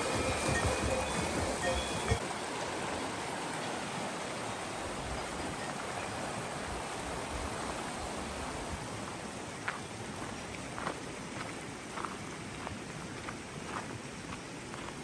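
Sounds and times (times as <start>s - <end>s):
rushing stream water: 0.0s - 15.0s.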